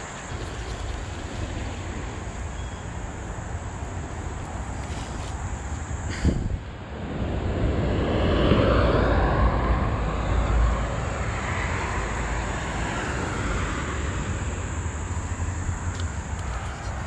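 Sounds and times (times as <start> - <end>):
passing vehicle rushing: 0.0 - 15.8.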